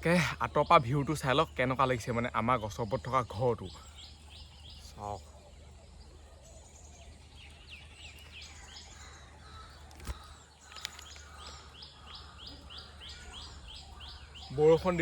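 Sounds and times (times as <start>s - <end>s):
bird calling down-slurred notes: 0.0s - 15.0s.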